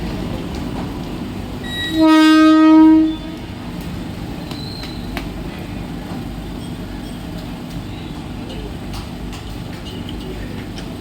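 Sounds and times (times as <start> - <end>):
train clicks and knocks: 0.0 - 11.0
train rumbling: 0.0 - 11.0.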